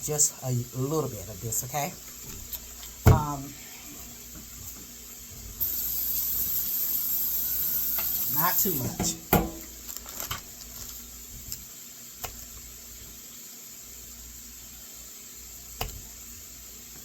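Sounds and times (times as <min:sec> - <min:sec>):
food sizzling in a pot: 0:00.1 - 0:17.0.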